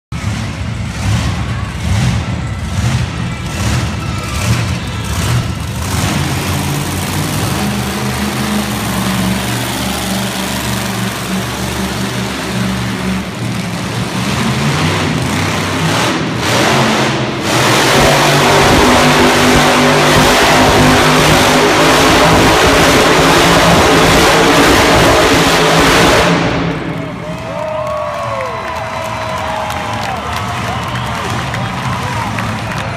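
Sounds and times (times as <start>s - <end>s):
monster truck engine revving: 0.1s - 32.9s.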